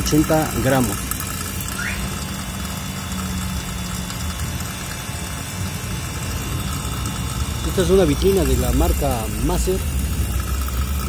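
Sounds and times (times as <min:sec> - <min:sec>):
refrigeration compressor humming: 0:00.0 - 0:11.0.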